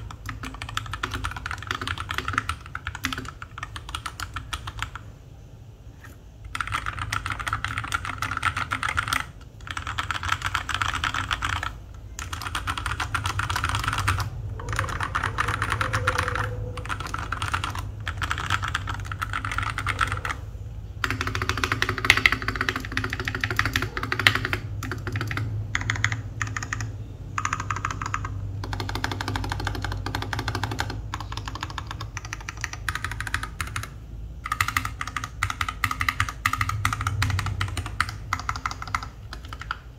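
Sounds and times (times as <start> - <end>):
mechanical keyboard typing: 0.0 - 5.1, 6.4 - 39.9.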